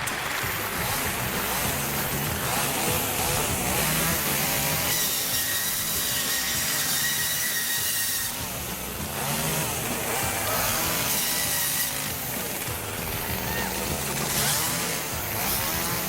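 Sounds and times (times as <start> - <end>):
chainsaw cutting at high revs: 0.0 - 16.0.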